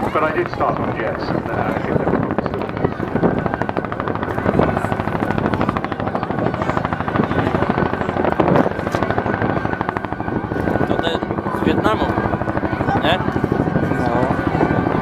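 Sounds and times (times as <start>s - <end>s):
helicopter rotor chopping: 0.0s - 15.0s
turbine whine: 0.0s - 15.0s.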